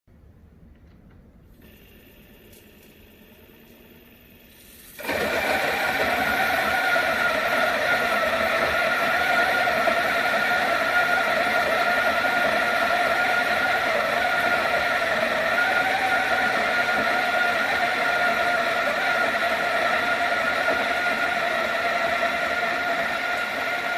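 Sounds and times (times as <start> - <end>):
coffee grinder whirring: 4.6 - 23.9.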